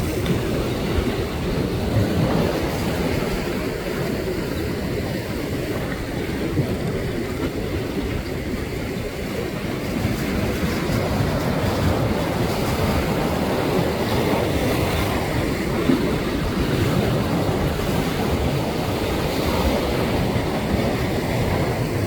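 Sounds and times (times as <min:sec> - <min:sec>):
ocean waves washing: 0:00.0 - 0:22.0
wind rumbling on microphone: 0:00.0 - 0:22.0.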